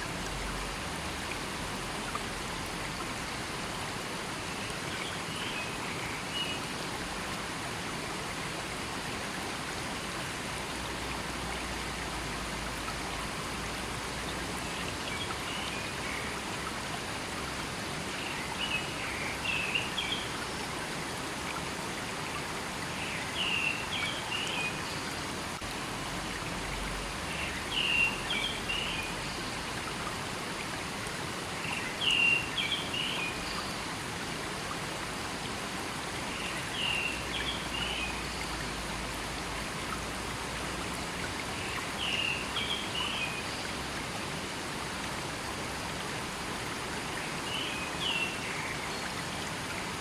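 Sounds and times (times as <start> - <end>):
river flowing: 0.0 - 50.0.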